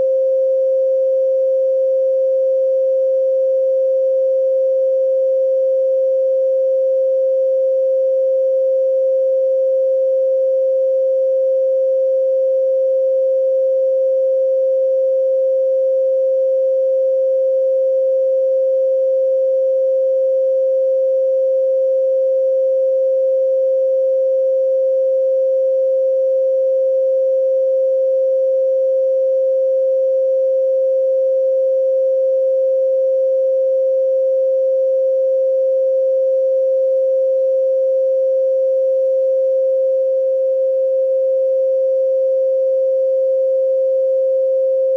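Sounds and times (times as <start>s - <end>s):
pure sine tone: 0.0s - 44.9s.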